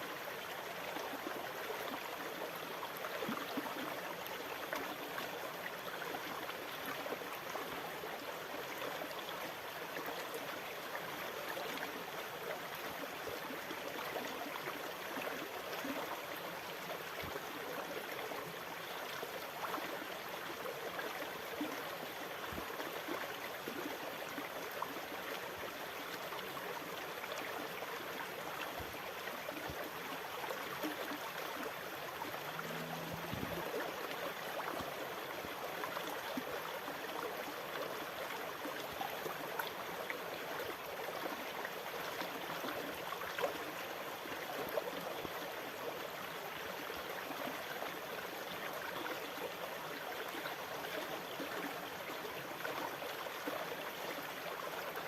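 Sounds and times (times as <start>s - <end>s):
water gurgling and trickling: 0.3s - 54.8s.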